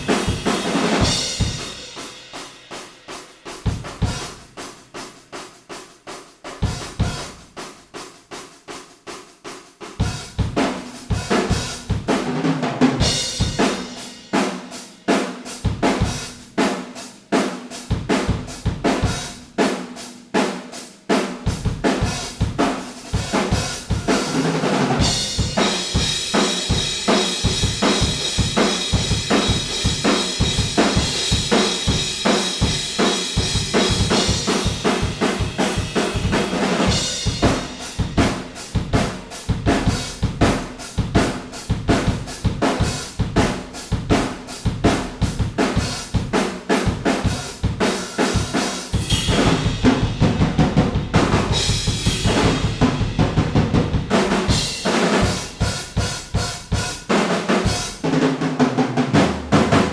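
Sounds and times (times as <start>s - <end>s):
drum kit playing: 0.0s - 59.9s.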